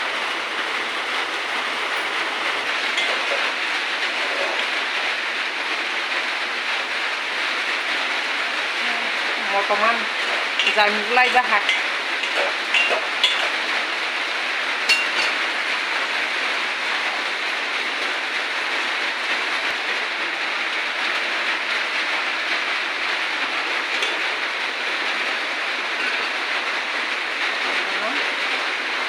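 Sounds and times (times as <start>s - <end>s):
food sizzling in a pan: 2.2s - 28.6s.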